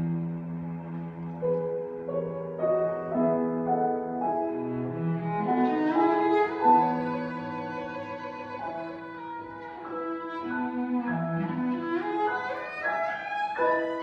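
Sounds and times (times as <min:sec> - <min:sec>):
bowed cello music: 0:00.0 - 0:14.0.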